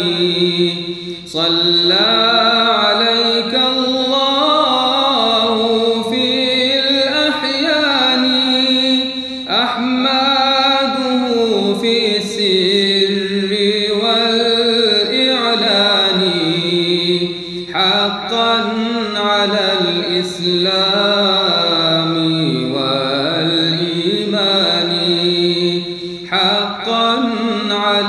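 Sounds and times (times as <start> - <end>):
man chanting: 0.0 - 28.0.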